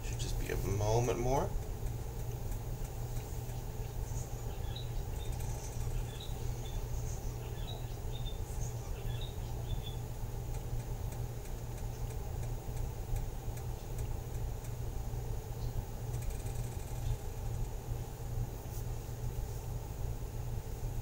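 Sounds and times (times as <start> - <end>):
low kitchen background hum: 0.0 - 21.0.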